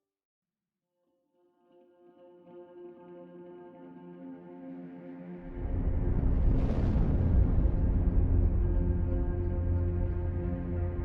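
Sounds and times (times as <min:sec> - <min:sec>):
soft ambient music: 0:01.6 - 0:11.0.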